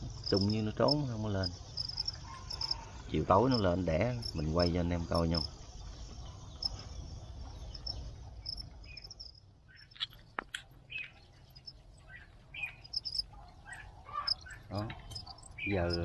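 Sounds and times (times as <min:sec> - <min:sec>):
bird chirps: 0:00.0 - 0:16.0
crickets chirping: 0:00.0 - 0:16.0.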